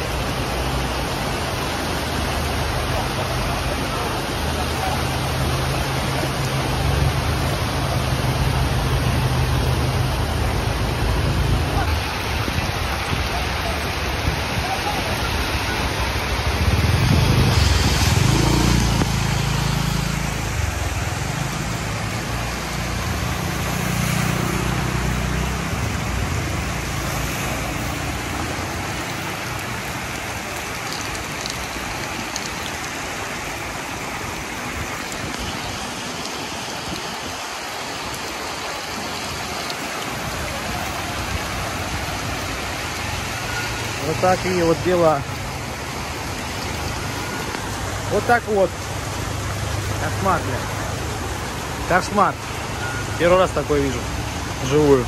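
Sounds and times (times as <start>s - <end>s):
heavy rain and running water: 0.0s - 55.0s.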